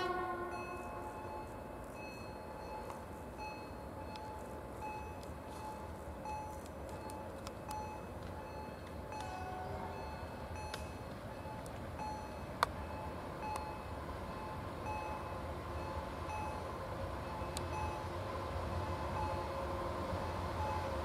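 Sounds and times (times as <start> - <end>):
electric locomotive rumble: 0.0 - 21.0.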